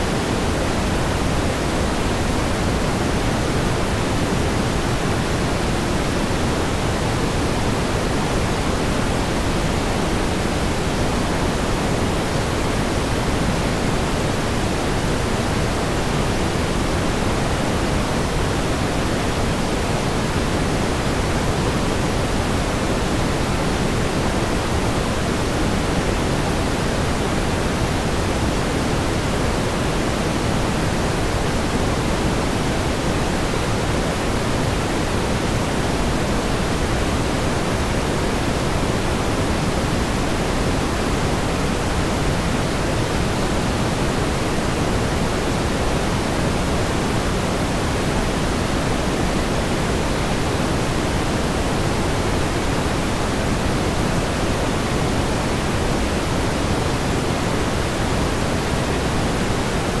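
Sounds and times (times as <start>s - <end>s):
pink noise hiss: 0.0s - 60.0s.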